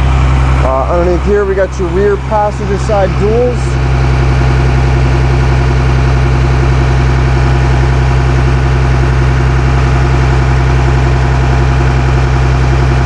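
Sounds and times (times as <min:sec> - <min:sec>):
diesel bus engine idling: 0:00.0 - 0:13.0.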